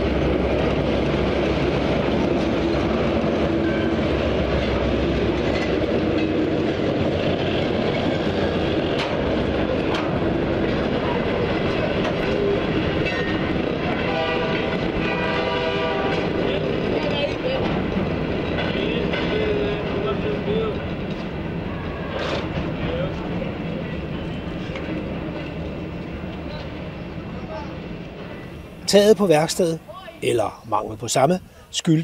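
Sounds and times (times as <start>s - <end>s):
clanks from train cars: 0.0s - 30.2s
freight train wheels rumbling: 0.0s - 32.0s.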